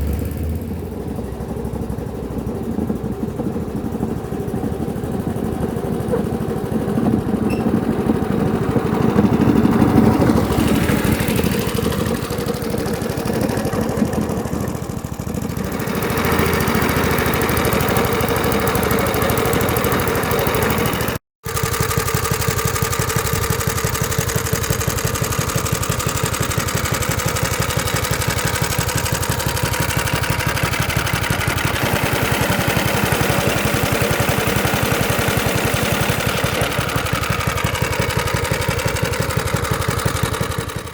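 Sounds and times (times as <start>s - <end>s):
lawnmower engine running: 0.0s - 40.9s.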